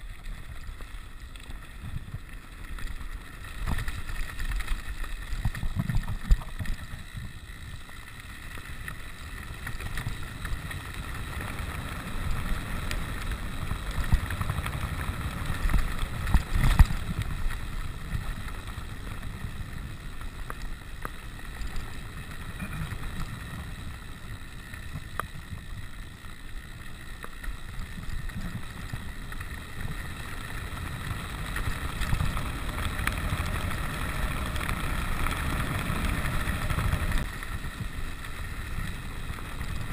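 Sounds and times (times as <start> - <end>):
bike tyres rolling on gravel: 0.0 - 39.9.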